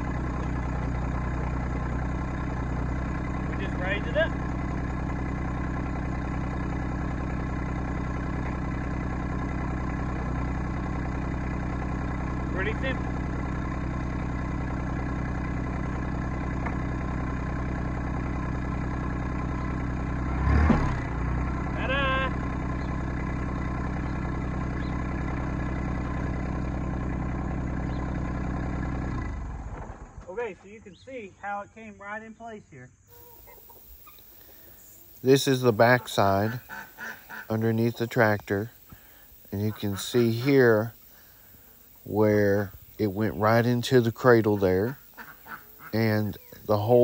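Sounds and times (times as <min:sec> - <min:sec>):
tractor engine idling: 0:00.0 - 0:31.5, 0:33.1 - 0:47.0.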